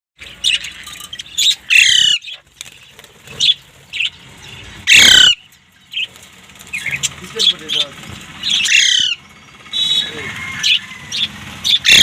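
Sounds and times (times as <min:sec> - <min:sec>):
parrots squawking: 0:00.3 - 0:06.1, 0:06.7 - 0:12.0.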